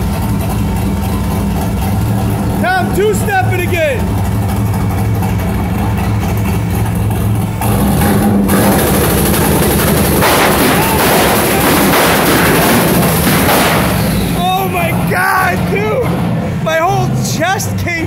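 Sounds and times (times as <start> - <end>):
engine idling and revving: 0.0 - 18.0
loud exhaust crackling: 0.0 - 18.0.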